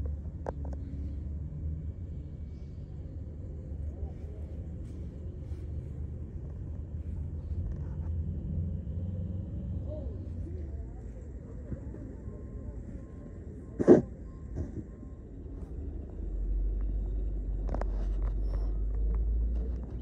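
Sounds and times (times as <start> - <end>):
city traffic rumble: 0.0 - 20.0
faint distant voices: 0.0 - 20.0.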